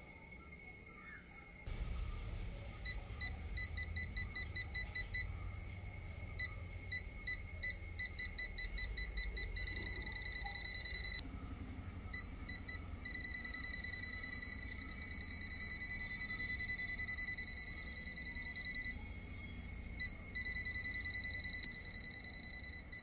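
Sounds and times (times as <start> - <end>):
voltage detector beeping: 1.7 - 11.2, 11.9 - 23.0.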